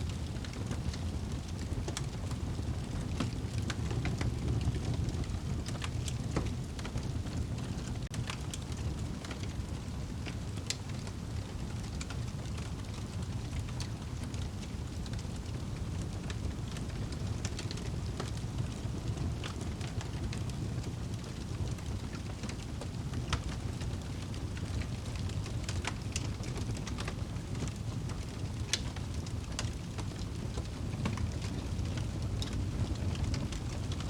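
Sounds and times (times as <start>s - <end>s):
low rush of flames: 0.0s - 34.0s
wood crackling and popping: 0.0s - 34.0s.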